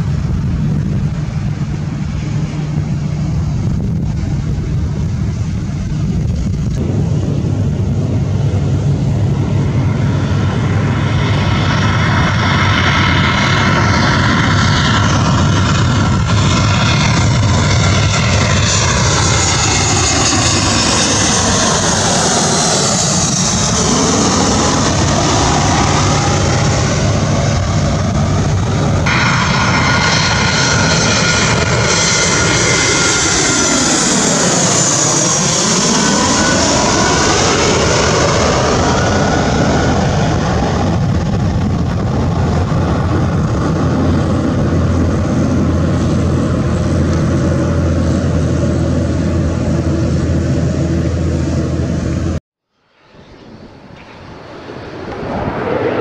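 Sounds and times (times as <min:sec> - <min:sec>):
jet airliner passing overhead: 0:00.0 - 0:56.0
landing jet rumble: 0:00.0 - 0:56.0.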